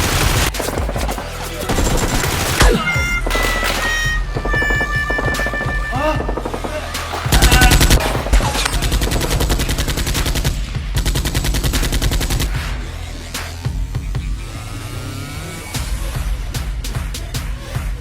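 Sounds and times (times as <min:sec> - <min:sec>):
action music with heavy bass: 0:00.0 - 0:18.0.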